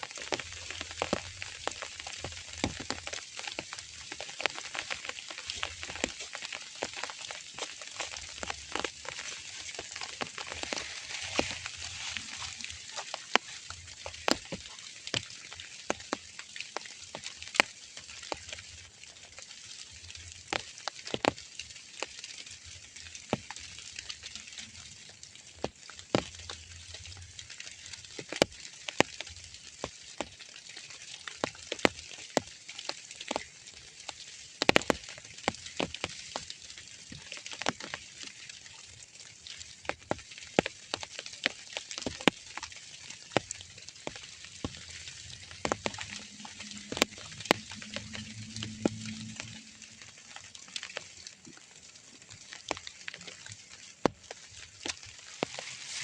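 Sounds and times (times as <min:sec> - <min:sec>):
raindrops ticking: 0:00.0 - 0:56.0.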